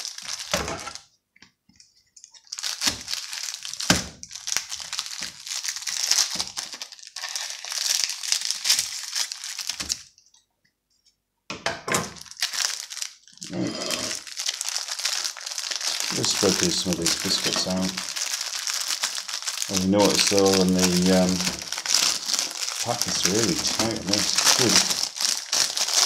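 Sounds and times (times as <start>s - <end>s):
plastic wrapper crinkling: 0.0s - 1.1s, 1.8s - 10.4s, 12.1s - 26.0s.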